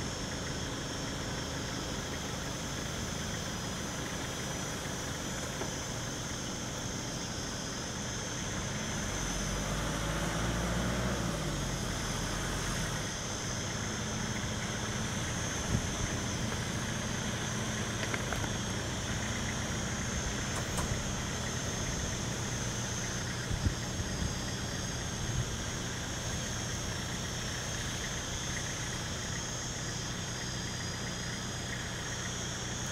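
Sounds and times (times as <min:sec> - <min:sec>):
vehicle engines idling: 0:00.0 - 0:32.9.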